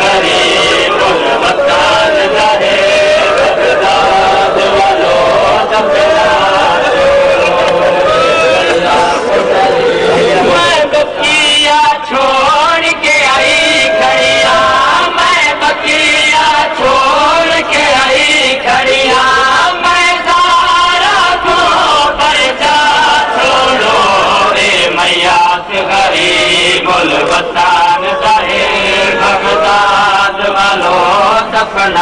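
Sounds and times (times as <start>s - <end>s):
man chanting a lament: 0.0s - 32.0s.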